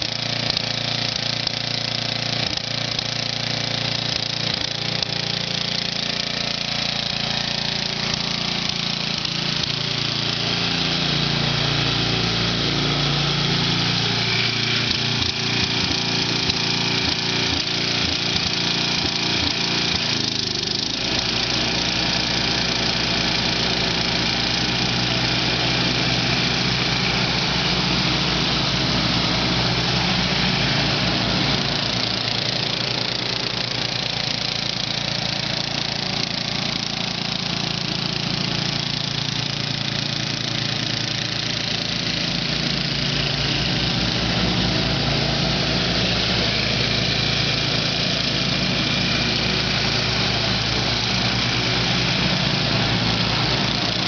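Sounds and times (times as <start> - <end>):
riding mower engine running: 0.0 - 54.0.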